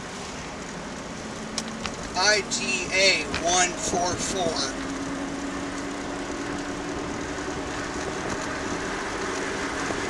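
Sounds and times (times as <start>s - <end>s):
low engine hum: 0.0s - 10.0s
tyres rushing on road: 0.0s - 10.0s.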